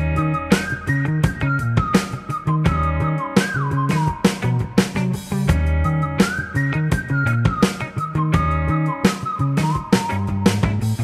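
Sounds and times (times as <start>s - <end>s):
bass line: 0.0s - 11.0s
sliding lead melody: 0.0s - 11.0s.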